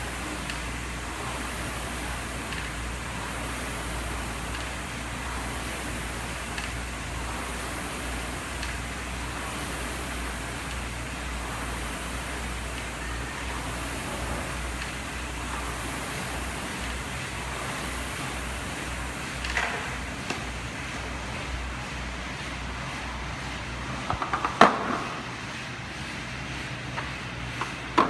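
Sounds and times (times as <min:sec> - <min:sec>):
rowing machine fan whooshing: 0:00.0 - 0:28.0
steady low hum: 0:00.0 - 0:28.0.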